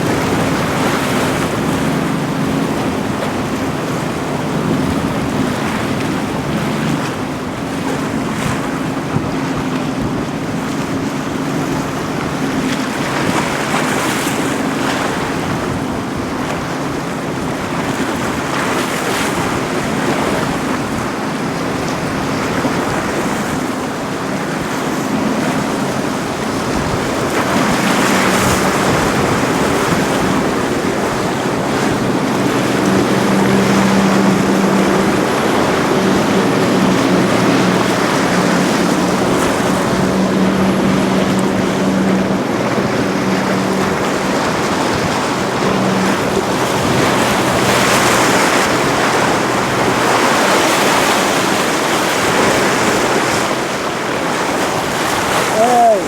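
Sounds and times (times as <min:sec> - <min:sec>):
boat engines droning: 0:00.0 - 0:56.0
waves and surf: 0:00.0 - 0:56.0
wind buffeting microphone: 0:00.0 - 0:56.0.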